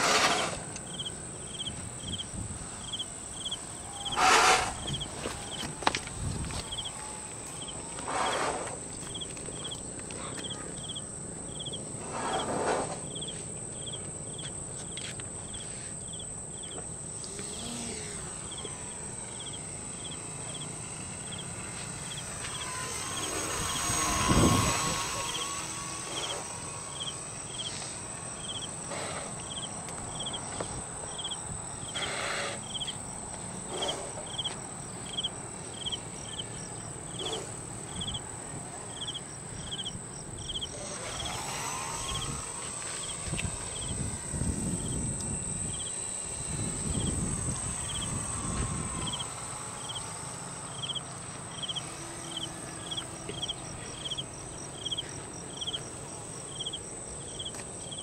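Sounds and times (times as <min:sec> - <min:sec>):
constant high buzz: 0:00.0 - 0:58.0
insects chirping: 0:00.0 - 0:58.0
model plane motor flying past: 0:00.0 - 0:58.0.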